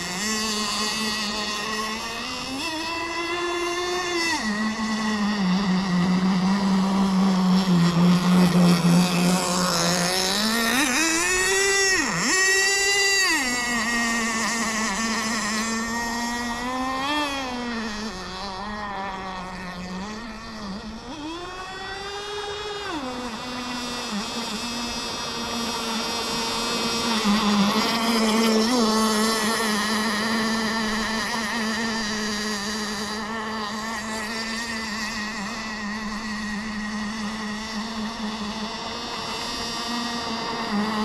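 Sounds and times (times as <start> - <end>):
model boat engine running: 0.0 - 41.0.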